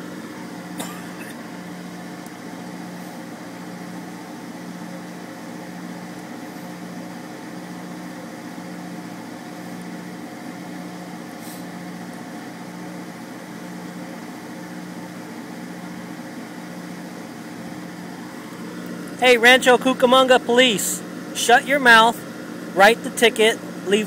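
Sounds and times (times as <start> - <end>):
vehicle mechanical hum: 0.0 - 24.0.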